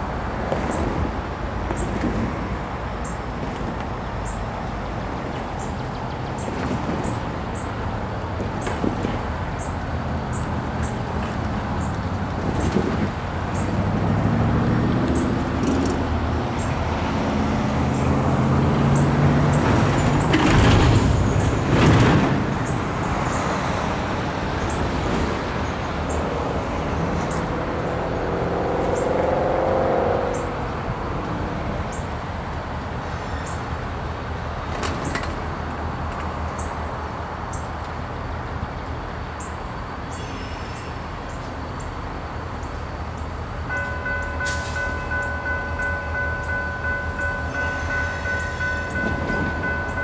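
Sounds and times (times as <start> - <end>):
diesel locomotives droning: 0.0 - 50.0.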